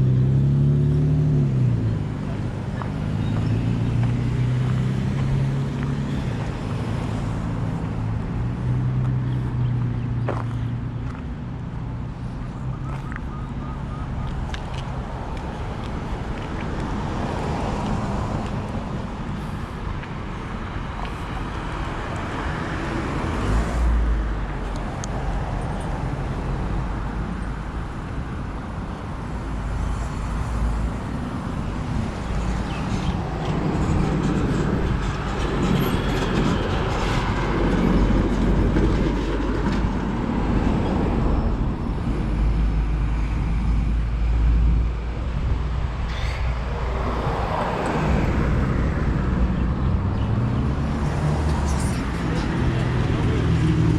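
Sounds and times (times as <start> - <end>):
traffic noise: 0.0 - 53.9.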